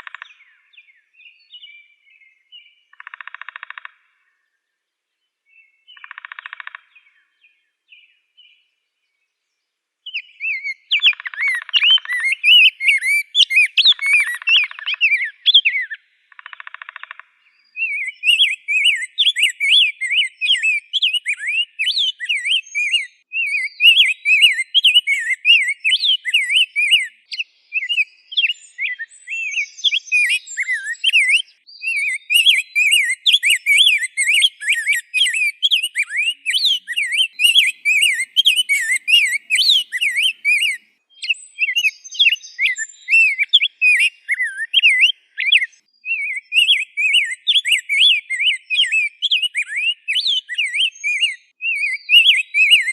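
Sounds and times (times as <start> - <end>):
grosbeak singing warble: 5.5 - 8.6, 10.1 - 52.9.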